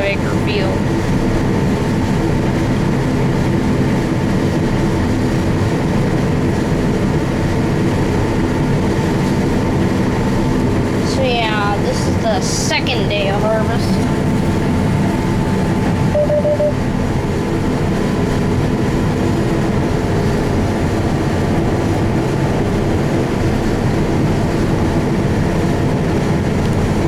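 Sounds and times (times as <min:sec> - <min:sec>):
combine harvester running: 0:00.0 - 0:27.0.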